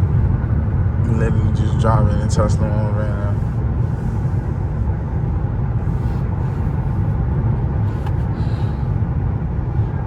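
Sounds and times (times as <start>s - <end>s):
road and tyre noise: 0.0s - 10.0s.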